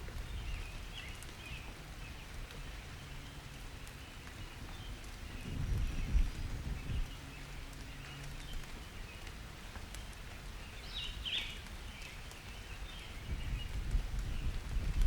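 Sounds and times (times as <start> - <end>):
light rain: 0.0 - 15.0.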